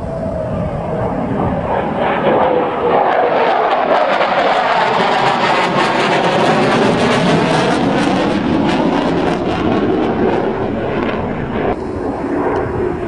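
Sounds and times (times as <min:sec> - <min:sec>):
fighter jet flying past: 0:00.0 - 0:13.0.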